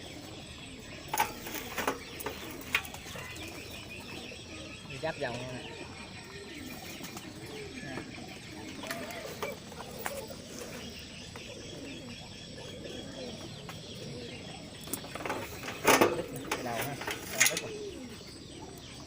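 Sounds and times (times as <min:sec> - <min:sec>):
birds calling faintly: 0:00.0 - 0:19.0.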